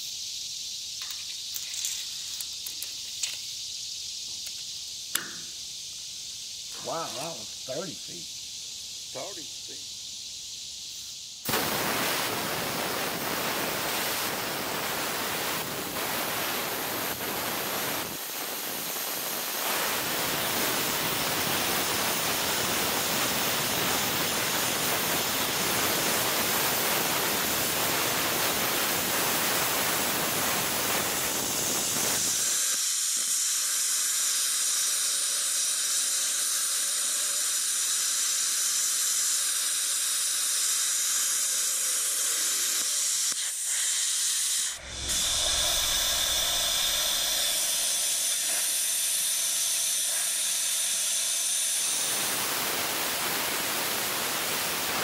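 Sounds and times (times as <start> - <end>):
plasma cutter hissing: 0.0 - 55.0.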